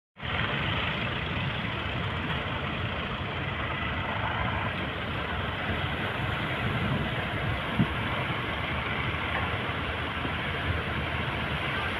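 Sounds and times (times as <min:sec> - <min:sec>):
boat engine rumbling: 0:00.2 - 0:11.9.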